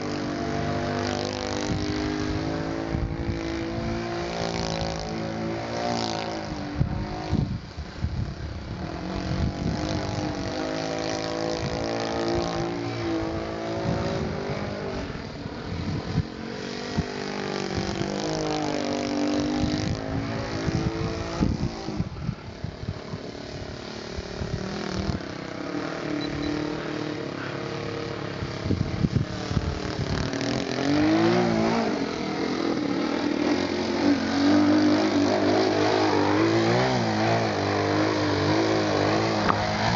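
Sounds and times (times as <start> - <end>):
model airplane motor buzzing: 0.0 - 39.9.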